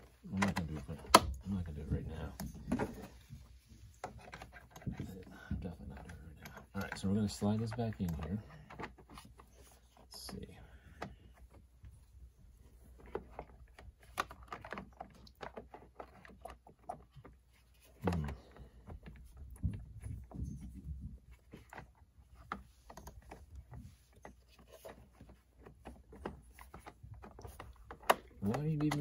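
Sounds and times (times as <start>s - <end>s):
plastic parts clicking and knocking: 0.0s - 29.0s.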